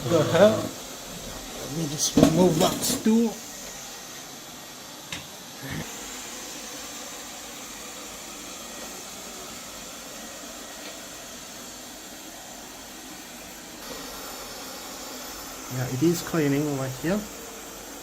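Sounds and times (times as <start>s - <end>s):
robot vacuum cleaner running: 0.0s - 18.0s.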